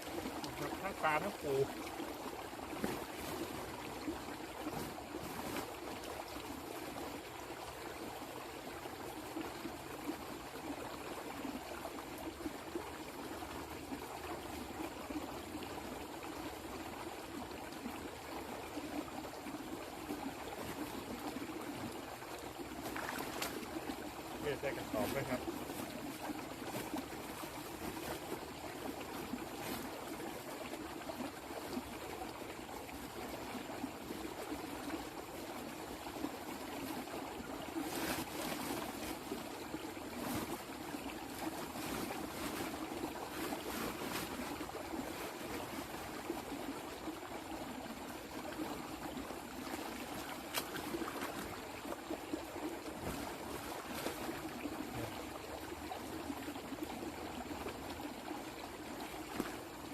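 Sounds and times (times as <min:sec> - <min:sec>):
running water trickling: 0:00.0 - 0:59.9.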